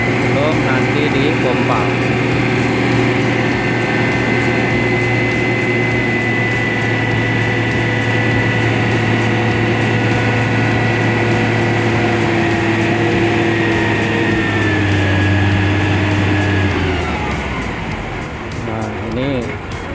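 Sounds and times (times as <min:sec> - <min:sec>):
diesel engines running: 0:00.0 - 0:19.9
faint high ticking: 0:00.0 - 0:19.9.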